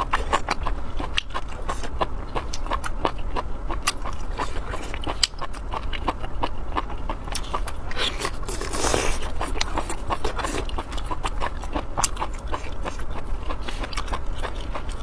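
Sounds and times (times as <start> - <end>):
person chewing wetly: 0.0 - 15.0.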